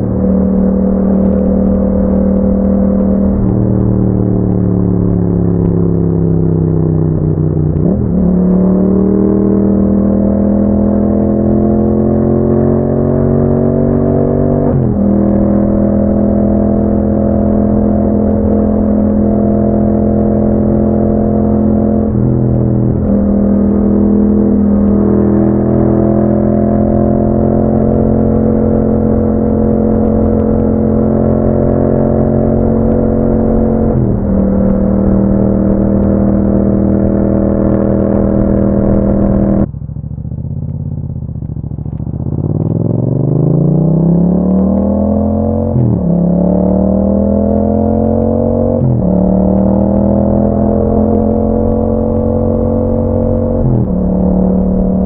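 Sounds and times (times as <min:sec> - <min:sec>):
motorcycle engine while riding: 0:00.0 - 0:55.0.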